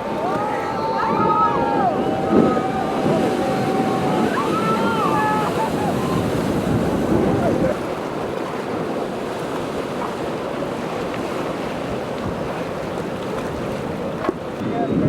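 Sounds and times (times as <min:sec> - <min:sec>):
ocean waves and surf rushing: 0:00.0 - 0:15.0
wind blowing across microphone: 0:00.0 - 0:15.0.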